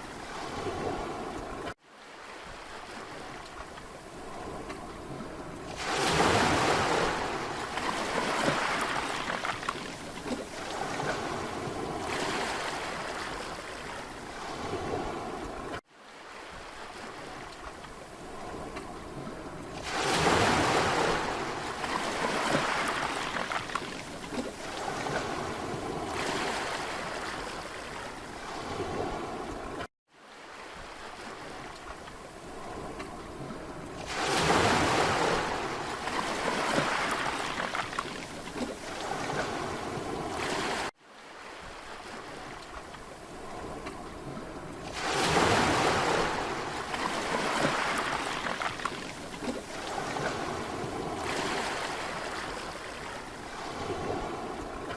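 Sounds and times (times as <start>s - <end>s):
sea waves breaking on a beach: 0.0s - 54.9s.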